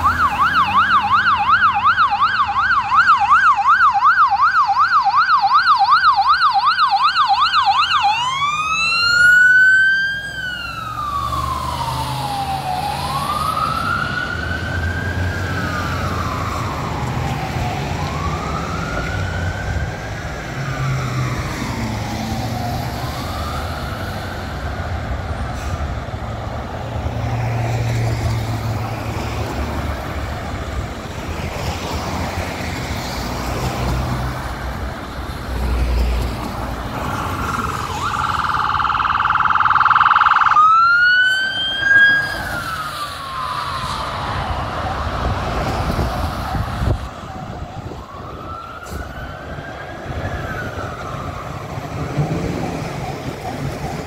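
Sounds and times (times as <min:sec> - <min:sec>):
ambulance siren wailing: 0:00.0 - 0:54.0
traffic noise: 0:00.0 - 0:54.0.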